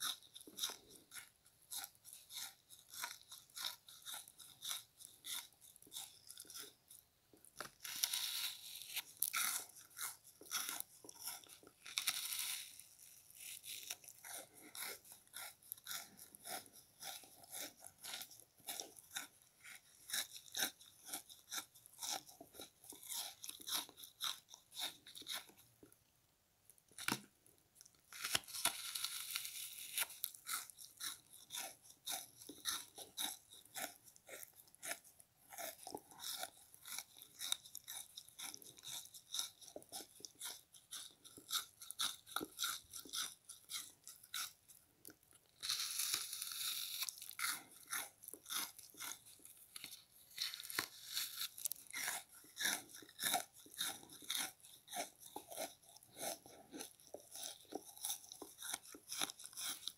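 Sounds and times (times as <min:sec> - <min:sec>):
frozen sponge being chewed: 0:00.0 - 0:59.9.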